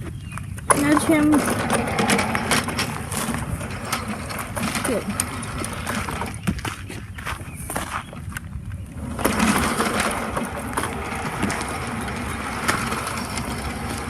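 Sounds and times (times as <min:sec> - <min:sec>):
model train motor and wheels: 0:00.4 - 0:06.7, 0:08.9 - 0:14.0.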